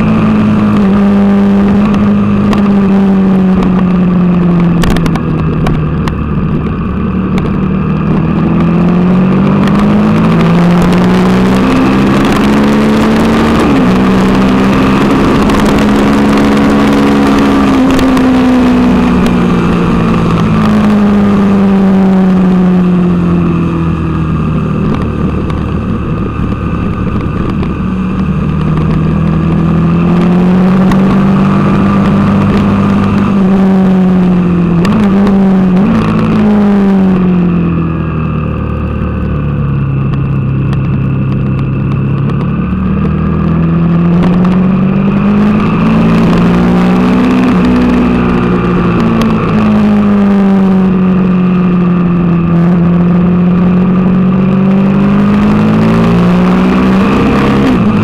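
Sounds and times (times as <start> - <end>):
motorcycle engine at speed: 0.0 - 58.0
wind noise: 0.0 - 58.0.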